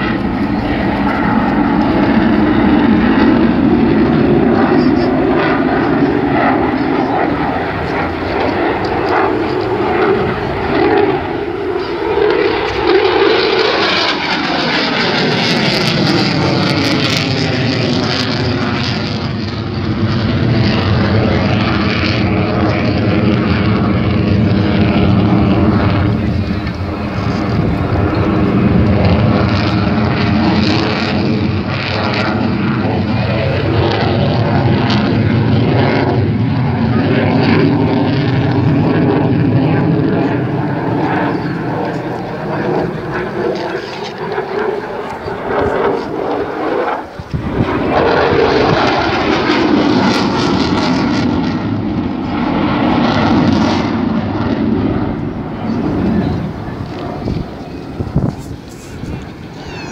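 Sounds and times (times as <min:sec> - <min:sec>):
distant jet engine rumble: 0:00.0 - 0:59.9.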